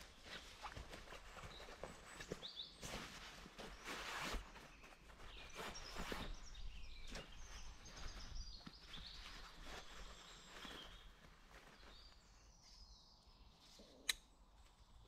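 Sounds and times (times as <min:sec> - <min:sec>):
nylon sack rustling: 0:00.0 - 0:12.5
small birds chirping: 0:00.0 - 0:15.0.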